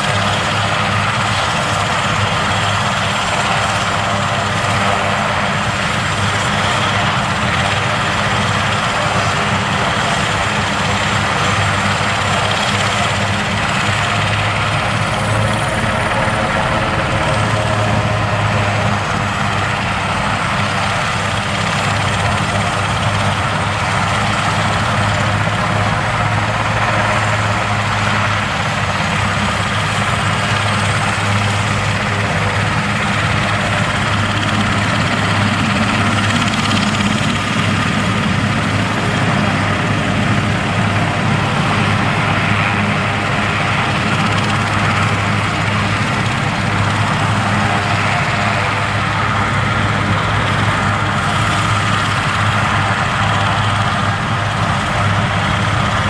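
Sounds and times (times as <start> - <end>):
helicopter rotor hum: 0.0 - 56.0
turbine whine: 0.0 - 56.0.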